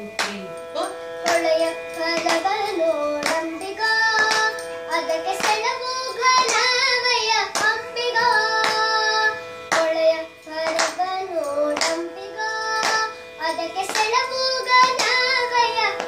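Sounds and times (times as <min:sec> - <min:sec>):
steady drone: 0:00.0 - 0:16.0
hand claps: 0:00.2 - 0:00.4, 0:01.2 - 0:16.0.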